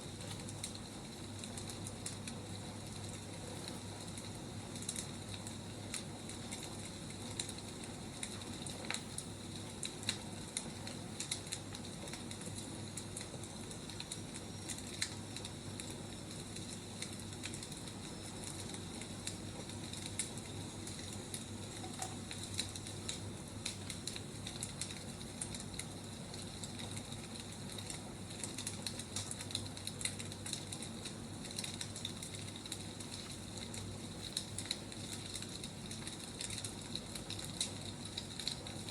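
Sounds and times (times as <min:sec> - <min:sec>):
firewood crackling and popping: 0:00.0 - 0:38.9
soft fire hiss: 0:00.0 - 0:38.9.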